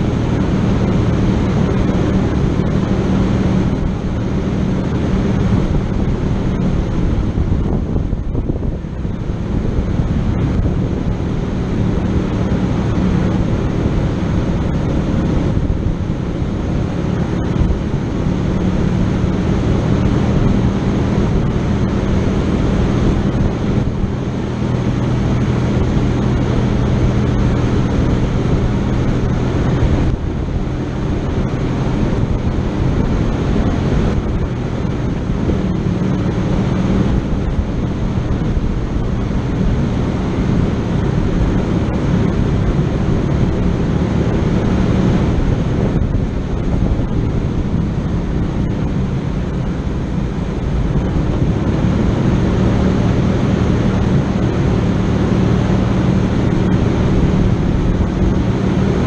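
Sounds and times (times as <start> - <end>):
dense rushing noise: 0.0 - 59.0
vehicle engine running at low revs: 0.0 - 59.0.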